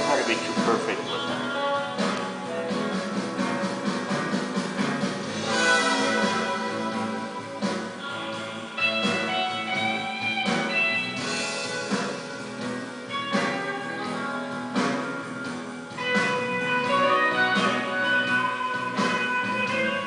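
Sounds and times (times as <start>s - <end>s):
guitar background music: 0.0s - 20.0s.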